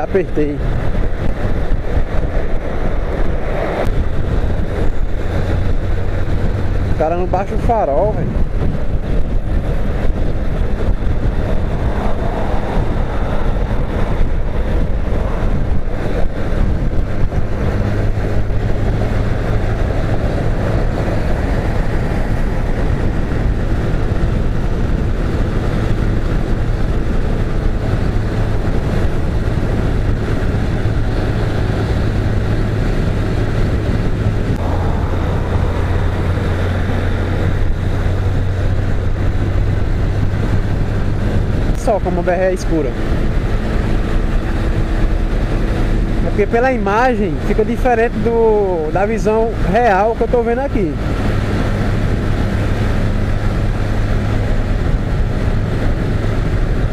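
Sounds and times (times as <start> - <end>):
motorcycle engine drone: 0.0 - 56.9
wind rush on microphone: 0.0 - 56.9.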